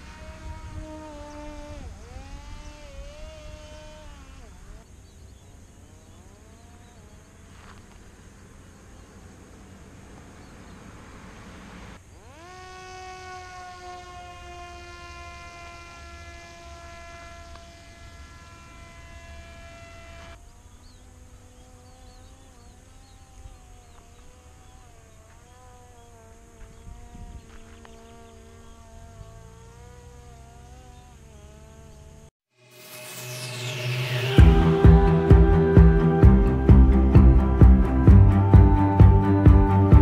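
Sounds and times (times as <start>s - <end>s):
drone motor whine: 0.0s - 40.0s.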